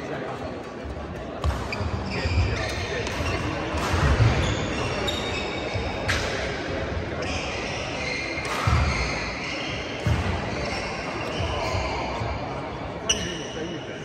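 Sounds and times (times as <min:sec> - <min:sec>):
court shoes squeaking: 0:00.7 - 0:14.0.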